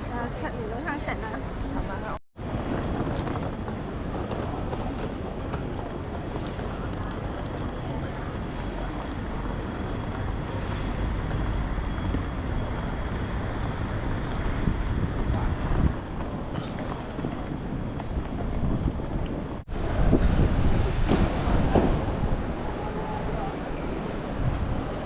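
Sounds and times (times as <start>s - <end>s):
street traffic noise: 0.0s - 25.0s.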